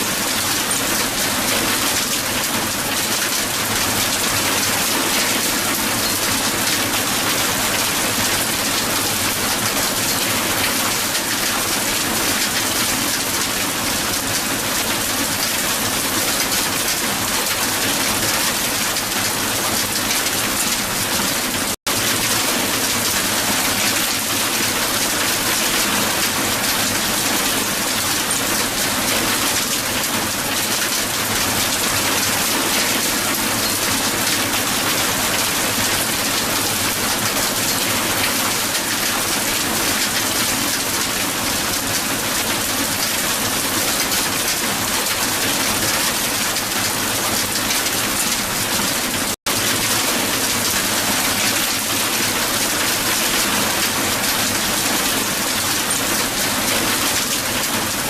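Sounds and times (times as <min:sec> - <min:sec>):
heavy hail falling on ground: 0:00.0 - 0:58.0.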